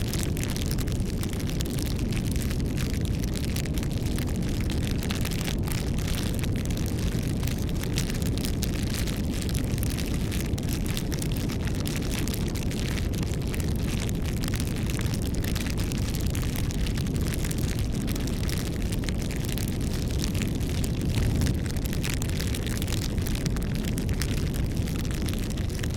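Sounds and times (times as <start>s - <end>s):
campfire burning: 0.0s - 25.9s
wood crackling and popping: 0.0s - 25.9s.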